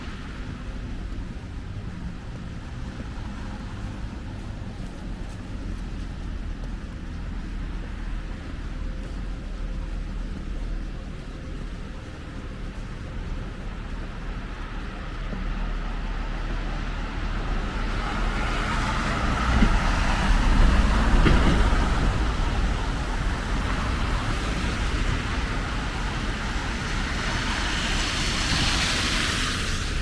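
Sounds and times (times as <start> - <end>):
vehicles driving past: 0.0 - 30.0.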